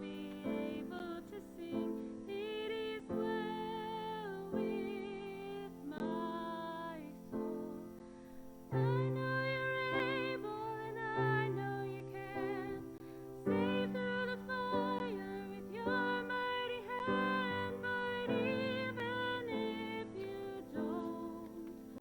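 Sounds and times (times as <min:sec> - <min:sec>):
person singing with vibrato: 0:00.0 - 0:22.0
sustained keyboard chords: 0:00.0 - 0:22.0.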